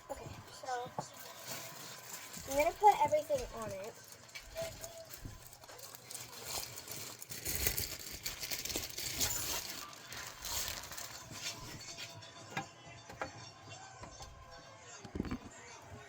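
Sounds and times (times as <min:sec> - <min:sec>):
kitchen items clinking and clattering: 0:00.0 - 0:15.6.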